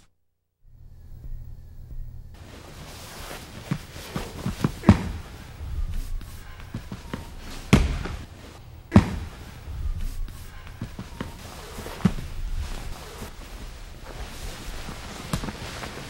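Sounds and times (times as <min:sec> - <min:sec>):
bodies thudding on a training mat: 0:02.4 - 0:16.0
feet shuffling on a mat: 0:02.4 - 0:16.0.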